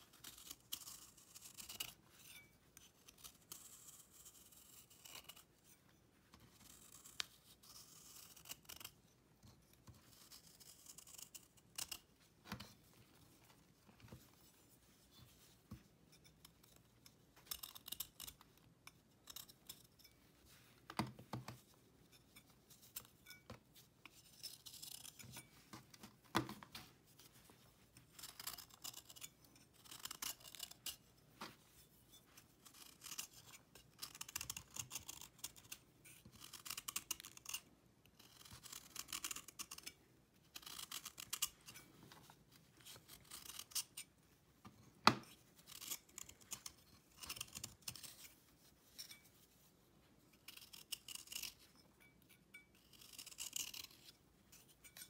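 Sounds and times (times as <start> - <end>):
knife scraping dried paste: 0.0 - 13.3, 14.0 - 20.8, 21.4 - 26.0, 27.1 - 44.2, 45.0 - 49.7, 50.3 - 55.0.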